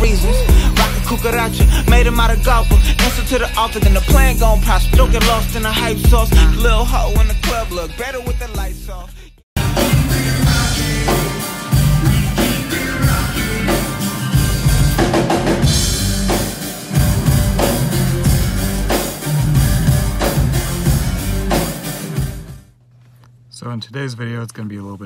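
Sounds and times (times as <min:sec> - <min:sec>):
music with drum-kit beat: 0:00.0 - 0:08.9, 0:09.6 - 0:22.7.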